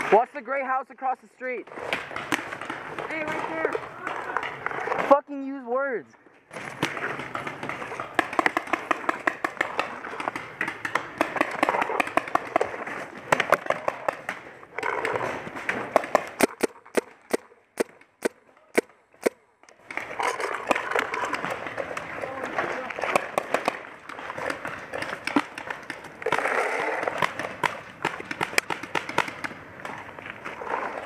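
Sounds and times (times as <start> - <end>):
paintball markers firing: 1.7 - 4.6, 6.5 - 30.1.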